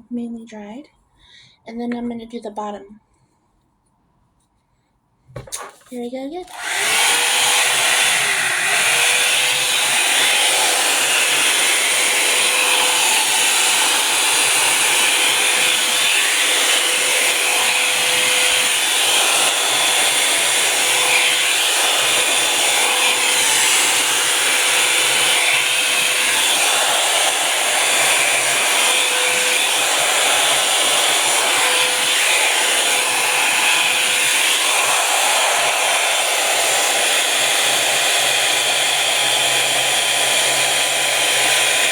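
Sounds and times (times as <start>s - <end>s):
hot-air brush fan blowing: 6.5s - 41.9s.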